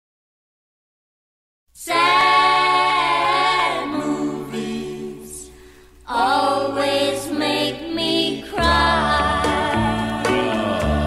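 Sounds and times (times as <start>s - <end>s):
voices singing layered notes: 1.8s - 11.0s.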